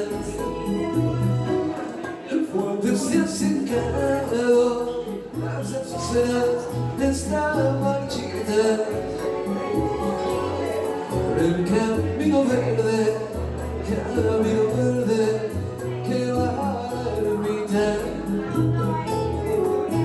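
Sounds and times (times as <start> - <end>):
bass line accompaniment: 0.0 - 1.9, 2.9 - 20.0
man singing: 0.0 - 20.0.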